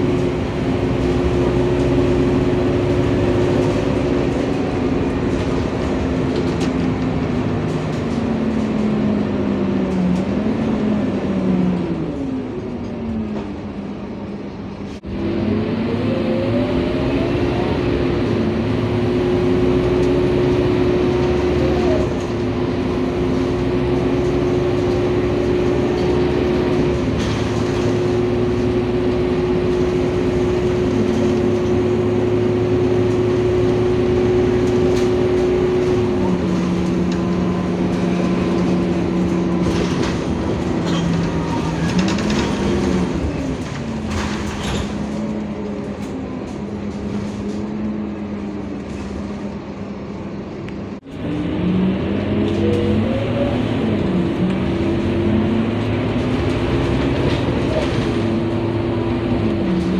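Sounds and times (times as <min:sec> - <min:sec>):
bus engine drone with whine: 0:00.0 - 0:59.9.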